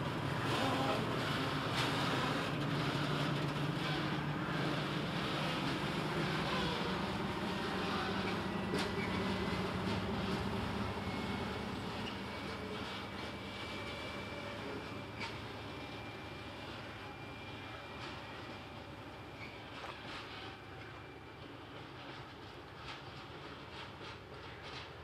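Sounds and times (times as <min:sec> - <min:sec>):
diesel locomotive engine humming: 0:00.0 - 0:25.0.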